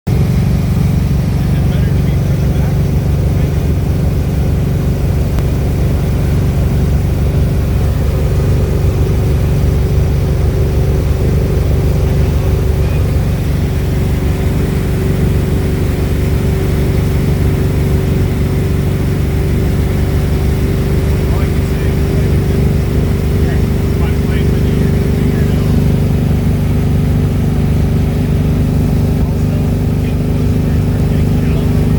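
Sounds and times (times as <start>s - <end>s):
boat engine droning: 0.0s - 31.9s.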